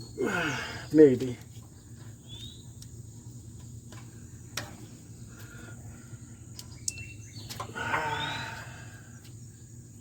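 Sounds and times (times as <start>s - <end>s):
outdoor background hum: 0.0s - 10.0s.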